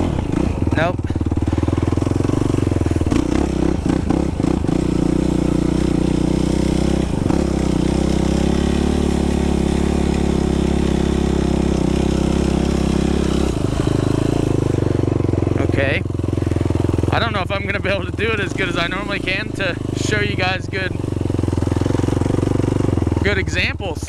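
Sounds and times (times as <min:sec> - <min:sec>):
quad engine revving: 0:00.0 - 0:24.0.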